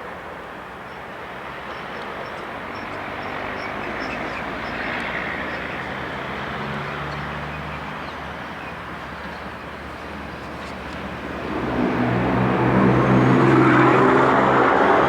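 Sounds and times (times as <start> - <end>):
vehicle passing: 2.4 - 15.0.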